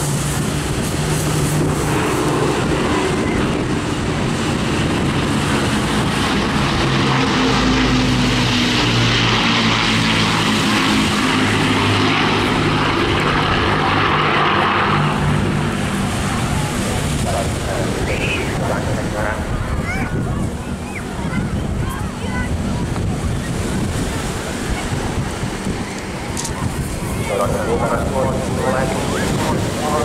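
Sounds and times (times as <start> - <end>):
propeller aircraft engines droning: 0.0 - 30.0.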